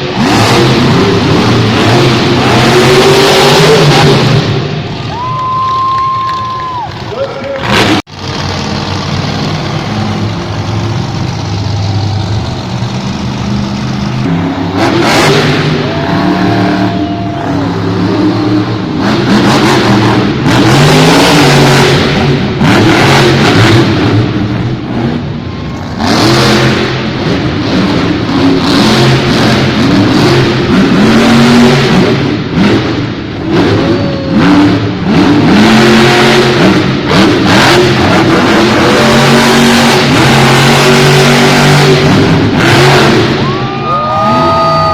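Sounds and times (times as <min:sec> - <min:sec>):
truck engine revving hard: 0:00.0 - 0:44.9.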